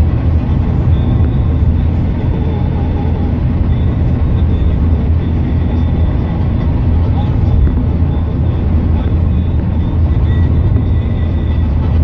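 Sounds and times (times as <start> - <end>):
engine and tyres rumbling inside car: 0.0 - 12.0.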